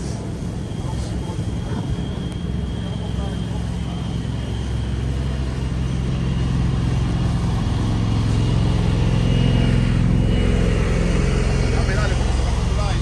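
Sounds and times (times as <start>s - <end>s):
street traffic: 0.0s - 13.0s
vehicle engine humming: 0.0s - 13.0s.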